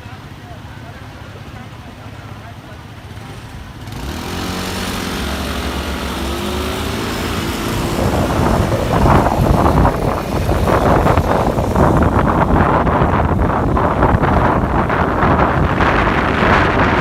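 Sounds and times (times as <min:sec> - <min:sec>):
train engine hum: 0:00.0 - 0:17.0.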